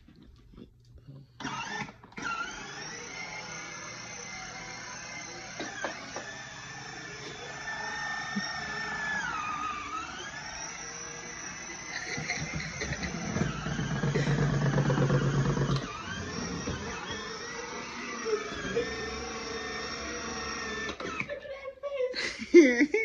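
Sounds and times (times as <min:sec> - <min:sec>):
toy quad bike motor whirring: 0:01.4 - 0:21.4.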